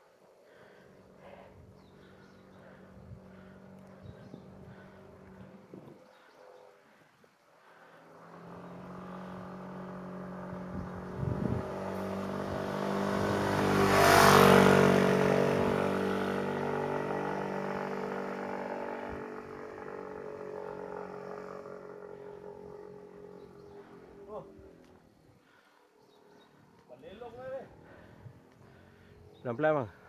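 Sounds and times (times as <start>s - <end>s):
road noise: 0.0s - 30.0s
motorcycle passing: 0.5s - 30.0s.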